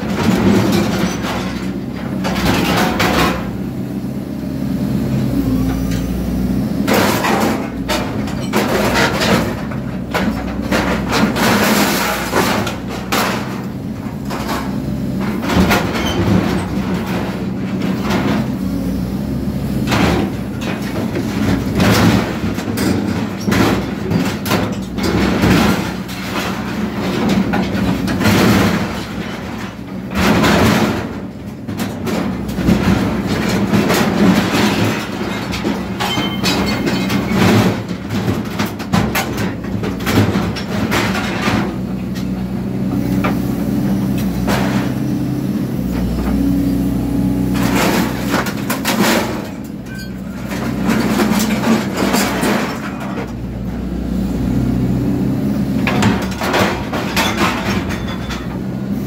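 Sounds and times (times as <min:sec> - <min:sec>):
diesel engine and hydraulics drone: 0:00.0 - 0:59.0.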